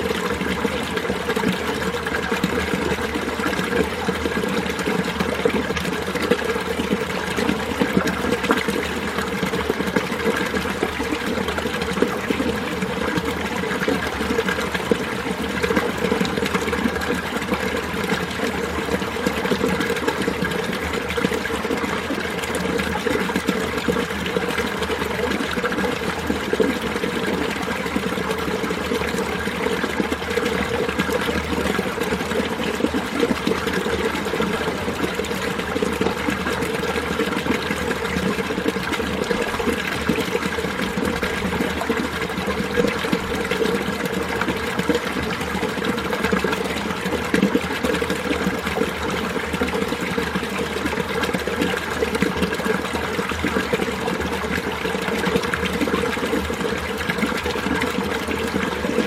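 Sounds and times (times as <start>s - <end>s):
mountain stream flowing: 0.0s - 59.0s.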